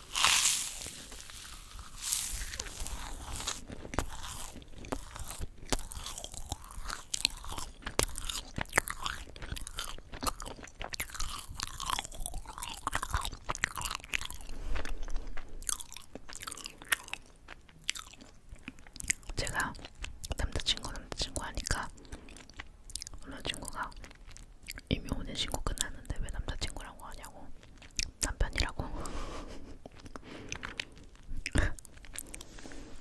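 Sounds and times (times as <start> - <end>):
crunchy snack being chewed: 0.0 - 33.0.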